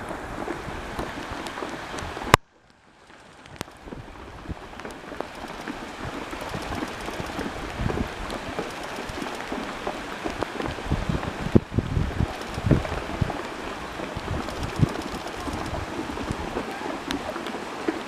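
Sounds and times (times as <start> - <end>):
wind on microphone: 0.0 - 2.4, 3.4 - 17.8
river water rushing and splashing: 0.0 - 18.0.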